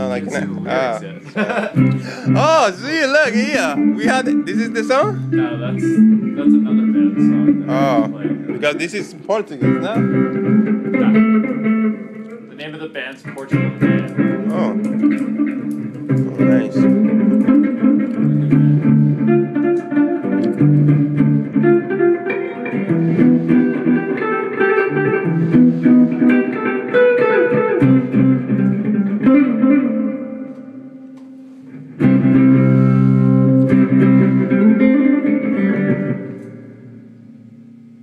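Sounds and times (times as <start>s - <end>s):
loud guitar chord: 0.0s - 12.2s, 13.3s - 38.0s
guitar plucked notes: 0.0s - 38.0s.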